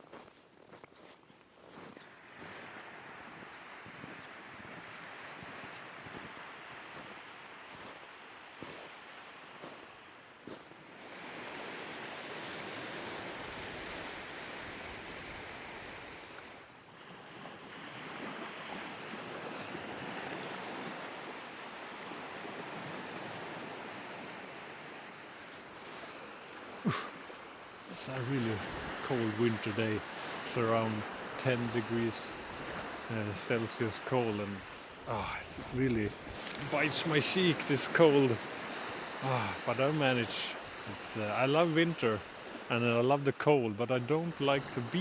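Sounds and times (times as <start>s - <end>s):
wind: 0.0s - 45.0s
sea surf washing on shore: 1.0s - 45.0s.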